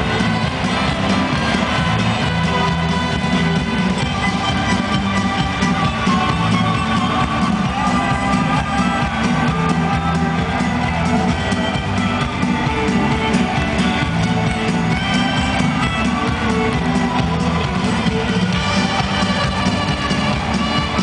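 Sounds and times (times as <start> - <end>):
live band music: 0.0 - 21.0.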